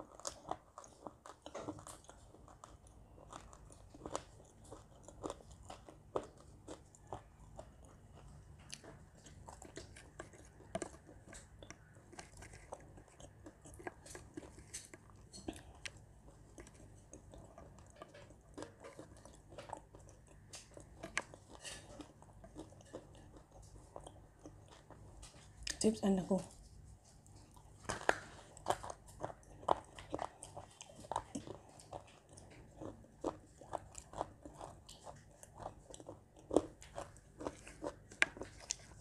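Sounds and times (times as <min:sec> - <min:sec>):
person crunching dry food: 0:00.0 - 0:25.8, 0:26.7 - 0:39.0.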